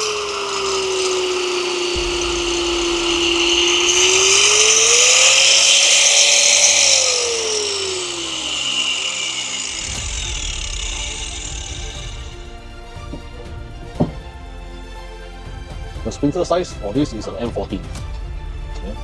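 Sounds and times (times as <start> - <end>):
angle grinder motor whine: 0.0 - 15.6.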